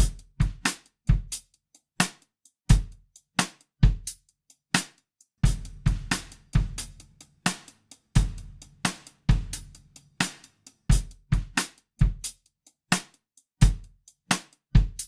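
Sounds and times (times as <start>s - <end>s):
drum loop: 0.0s - 15.0s.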